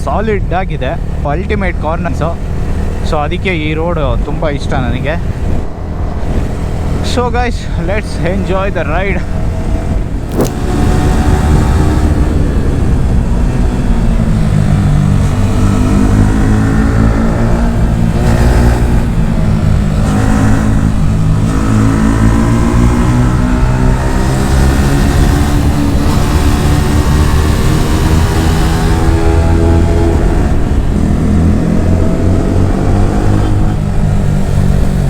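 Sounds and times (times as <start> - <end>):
motorcycle engine revving: 0.8 - 35.0.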